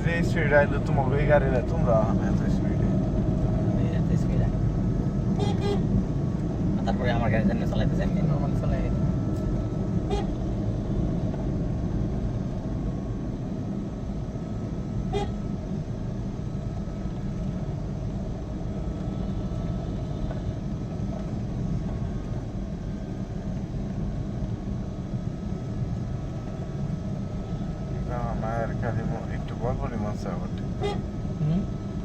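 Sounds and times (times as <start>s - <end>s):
engine and road rumble: 0.0s - 32.0s
faint steady whine: 0.0s - 32.0s.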